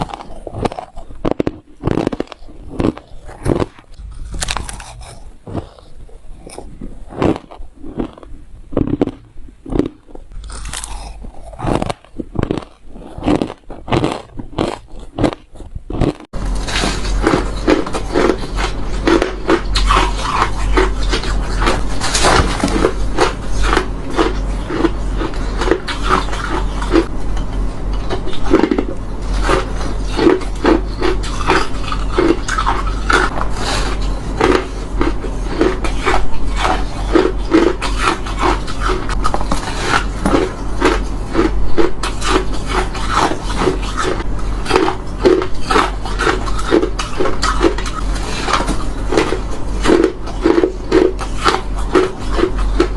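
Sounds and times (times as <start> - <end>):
ice being chewed: 0.0 - 52.9.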